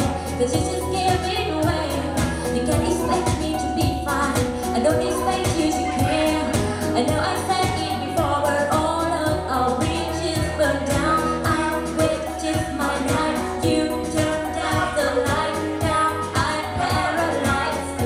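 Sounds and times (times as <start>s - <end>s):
acoustic guitar: 0.0s - 18.0s
person singing: 0.0s - 18.0s.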